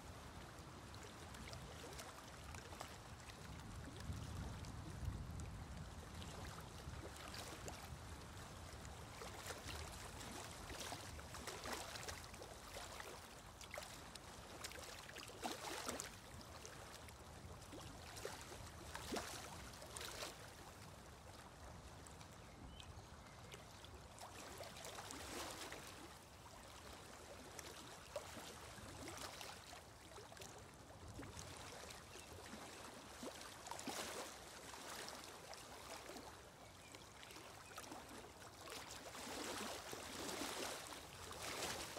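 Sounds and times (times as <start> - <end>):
water trickling and splashing: 0.0 - 41.9.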